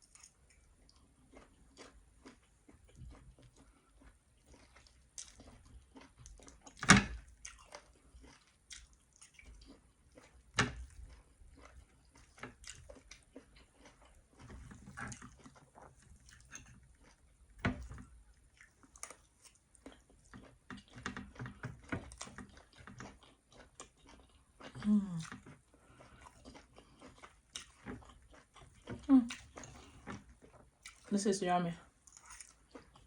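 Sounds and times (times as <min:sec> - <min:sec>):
person chewing food: 0:00.0 - 0:31.1, 0:31.8 - 0:33.0.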